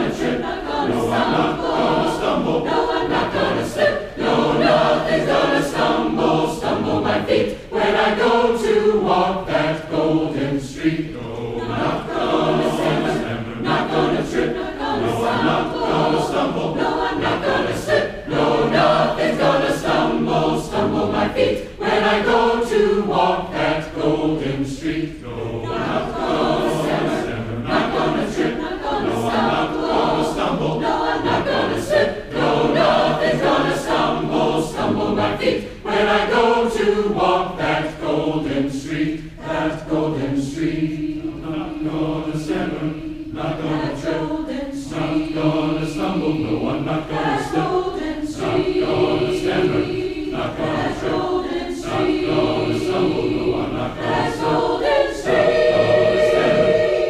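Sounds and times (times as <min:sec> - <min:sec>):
choir singing gospel: 0:00.0 - 0:57.0.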